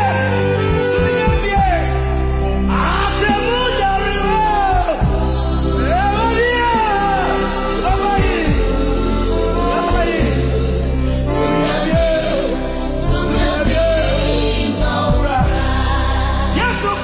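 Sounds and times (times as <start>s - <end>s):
backing choir singing: 0.0s - 17.0s
band with guitars bass and drums: 0.0s - 17.0s.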